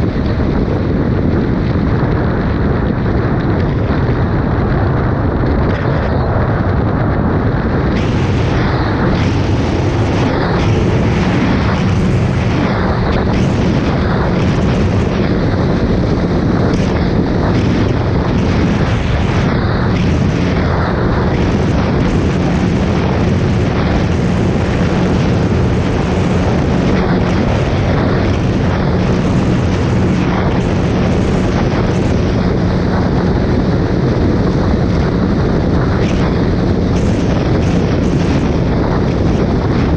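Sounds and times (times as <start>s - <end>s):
motorcycle engine droning: 0.0s - 39.9s
wind rushing on microphone: 0.0s - 39.9s.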